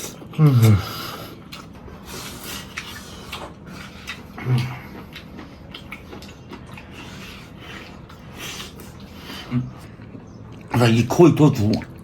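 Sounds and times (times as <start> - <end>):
chewing and mouth smacking: 0.0 - 10.8, 11.5 - 12.0.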